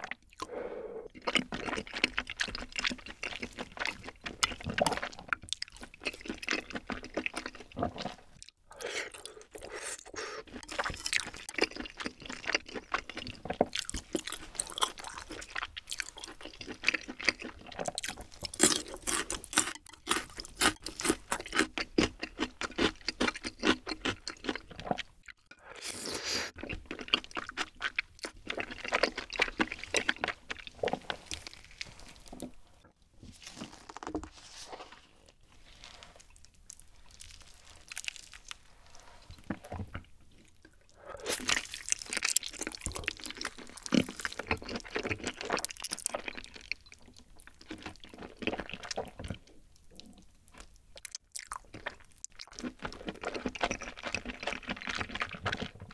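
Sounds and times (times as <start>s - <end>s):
wet chewing: 0.0s - 32.8s, 35.7s - 55.9s.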